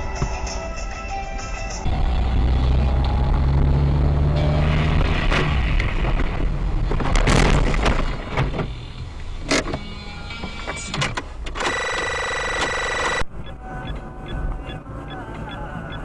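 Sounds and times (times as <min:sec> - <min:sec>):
car driving on road: 0:01.8 - 0:16.0.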